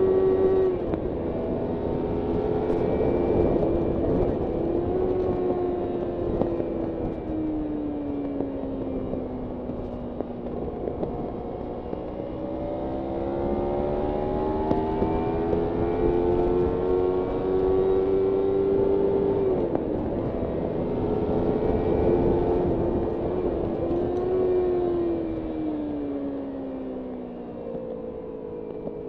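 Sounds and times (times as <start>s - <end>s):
wind rush: 0.0s - 25.8s
motorcycle engine accelerating: 0.0s - 29.0s.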